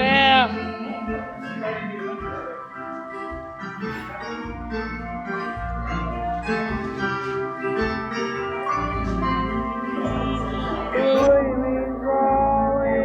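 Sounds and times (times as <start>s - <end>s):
instrumental music with bass: 0.0s - 13.0s.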